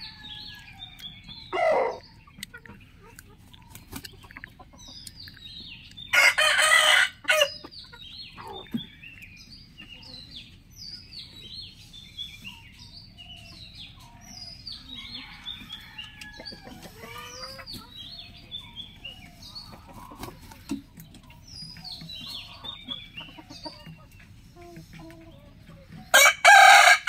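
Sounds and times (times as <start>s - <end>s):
chickens clucking: 0.0s - 27.0s
high chick chirps: 0.0s - 27.0s.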